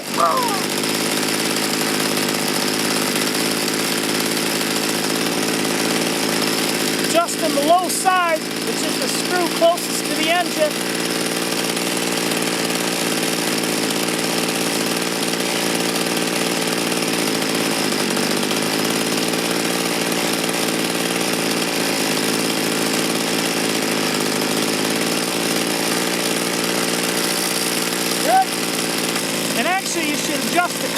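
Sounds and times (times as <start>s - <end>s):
two-stroke tiller engine running: 0.0s - 30.9s.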